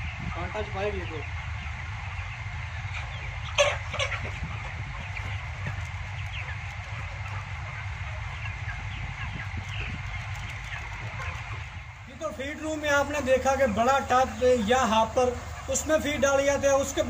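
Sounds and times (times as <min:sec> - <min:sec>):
chickens clucking and peeping: 0:00.0 - 0:17.0
steady low hum: 0:00.0 - 0:17.0.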